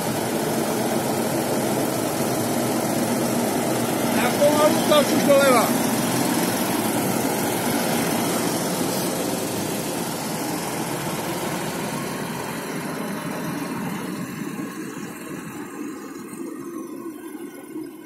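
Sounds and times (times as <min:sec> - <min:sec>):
tractor diesel engine under load: 0:00.0 - 0:17.1.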